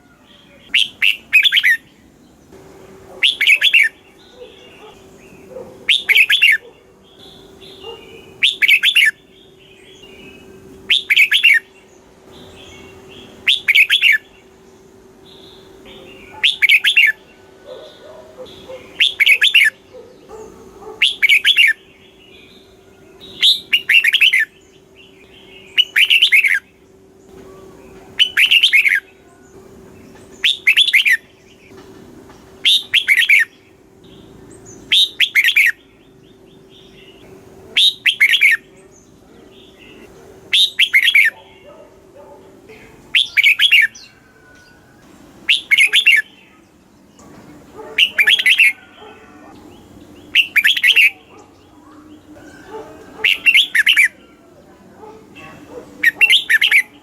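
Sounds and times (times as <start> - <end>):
bird singing warbling phrases: 0.0 - 31.8, 32.4 - 57.0
faint steady hum: 0.0 - 57.0.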